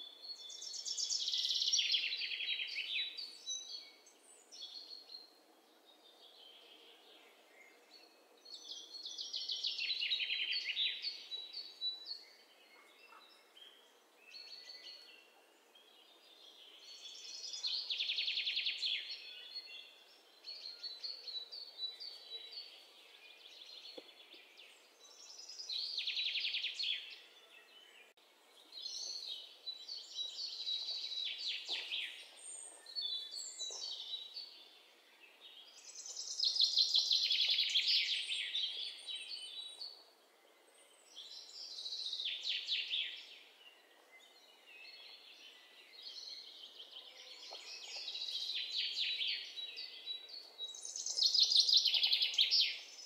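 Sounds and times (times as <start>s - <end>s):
songbirds trilling and chirping: 0.0s - 53.0s.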